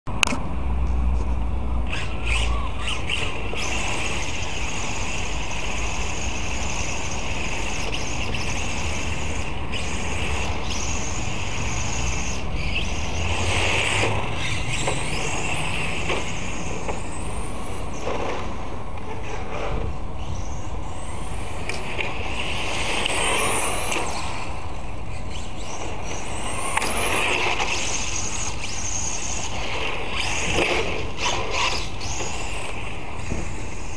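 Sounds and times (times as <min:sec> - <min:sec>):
electric motor whine: 0:01.8 - 0:33.9.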